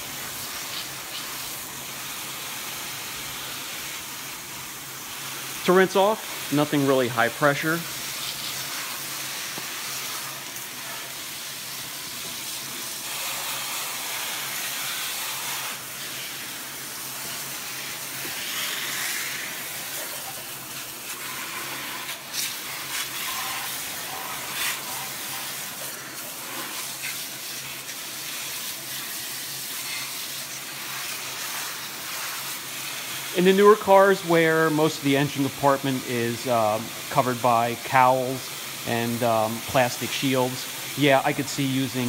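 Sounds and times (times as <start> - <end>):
water spray hissing: 0.0 - 42.0.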